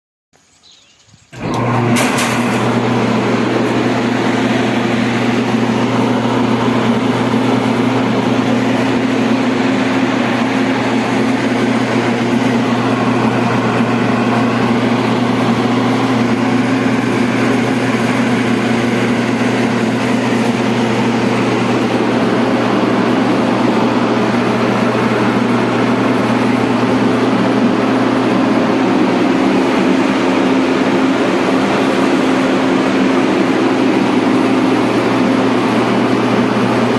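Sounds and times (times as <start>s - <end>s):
large machine humming and rushing: 1.3s - 36.9s.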